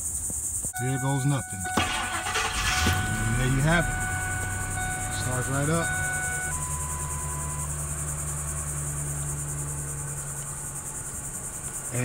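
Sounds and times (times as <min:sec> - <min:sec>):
high-pitched chirring: 0:00.8 - 0:11.8
truck engine idling: 0:00.8 - 0:12.0.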